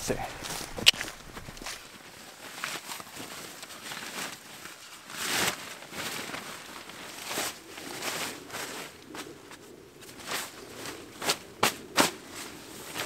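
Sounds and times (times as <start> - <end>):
rustling of camping gear: 0.0 - 13.0.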